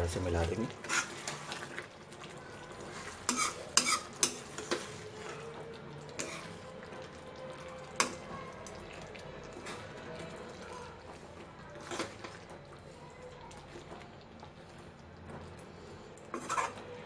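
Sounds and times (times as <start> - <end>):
curry sizzling in a pot: 0.0 - 17.0.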